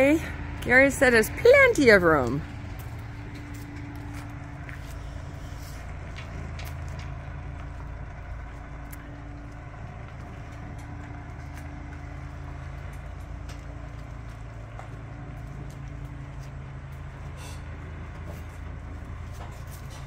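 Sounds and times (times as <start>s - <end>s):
truck engine idling low: 0.0s - 20.0s.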